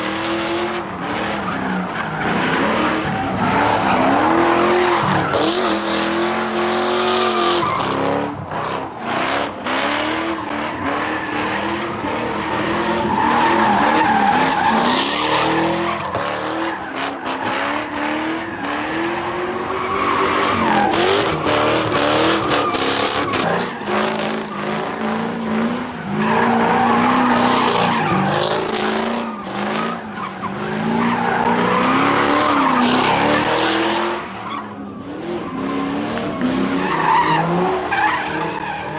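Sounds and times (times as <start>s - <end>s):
tyres squealing on pavement: 1.1s - 9.6s, 10.2s - 38.9s.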